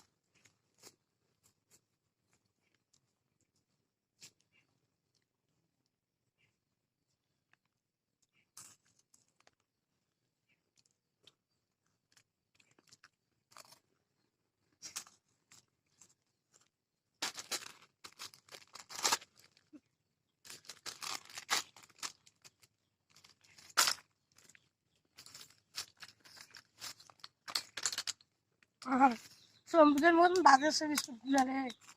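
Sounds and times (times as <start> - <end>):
biscuits crunching being chewed: 0.0 - 5.9, 7.0 - 29.6.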